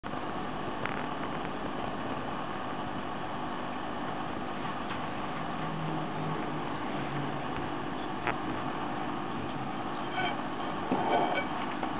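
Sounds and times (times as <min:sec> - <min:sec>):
mechanical hum with hiss: 0:00.0 - 0:11.9.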